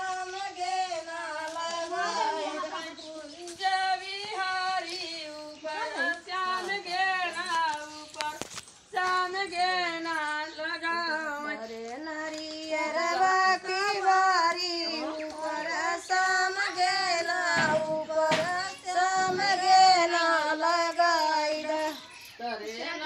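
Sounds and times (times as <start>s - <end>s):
women singing unaccompanied: 0.0s - 23.0s.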